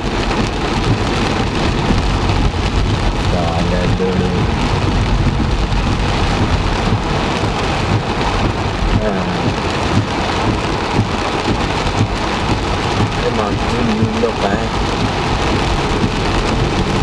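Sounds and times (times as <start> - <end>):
heavy rain on a car: 0.0 - 17.0
low rumble: 0.0 - 17.0.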